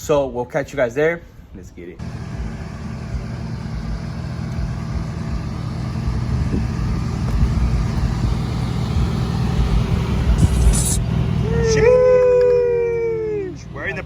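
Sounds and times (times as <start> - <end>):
truck engine humming: 2.0 - 14.0.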